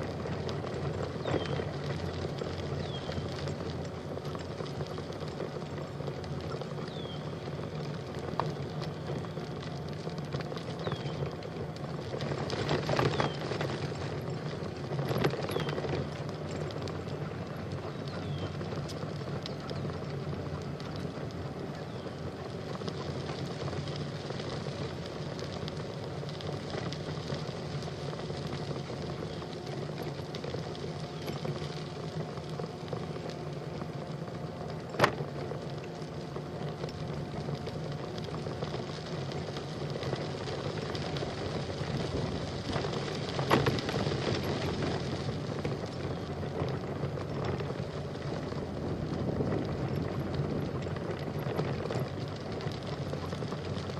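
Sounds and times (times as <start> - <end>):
bike riding rushing noise: 0.0 - 53.9.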